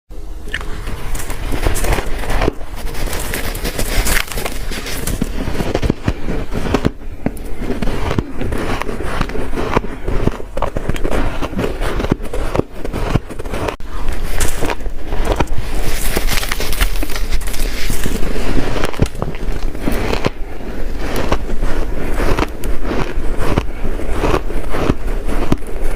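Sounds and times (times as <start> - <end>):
ice being chewed: 0.5 - 25.9.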